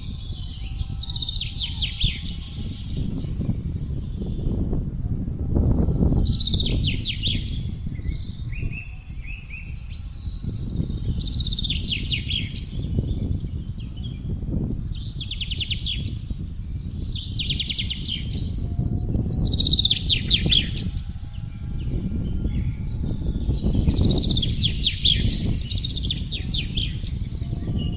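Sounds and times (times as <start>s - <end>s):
songbird trilling: 0.0s - 4.8s, 6.0s - 27.9s
gusty wind: 0.0s - 27.9s.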